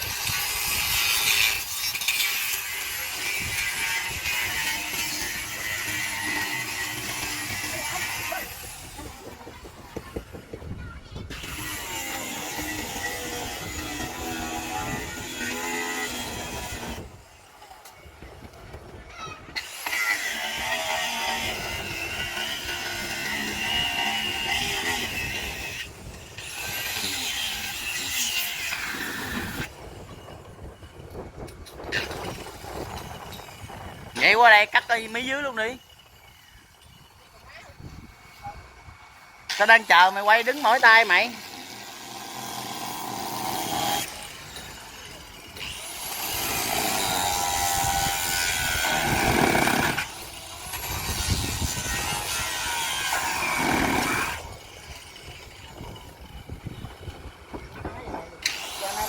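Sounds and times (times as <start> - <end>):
power saw cutting wood: 0.0 - 9.5, 11.3 - 17.2, 19.6 - 30.2, 31.8 - 38.4, 39.0 - 59.0.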